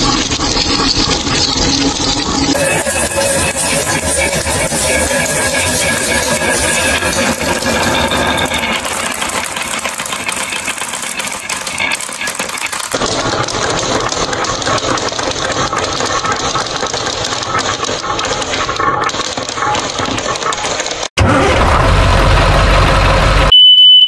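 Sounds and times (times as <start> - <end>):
marbles rolling on wooden track: 0.0 - 21.0.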